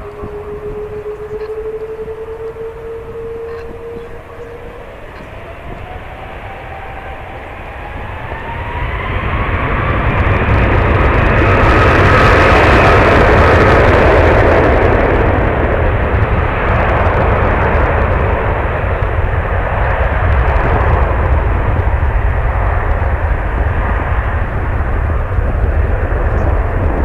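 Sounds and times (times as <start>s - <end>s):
jet airliner passing: 0.0s - 27.0s
wind buffeting microphone: 0.0s - 27.0s.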